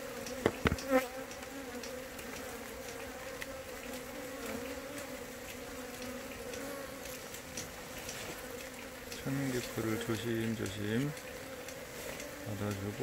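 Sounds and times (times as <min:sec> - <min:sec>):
faint scattered ticks: 0:00.0 - 0:13.0
honeybees buzzing: 0:00.0 - 0:13.0.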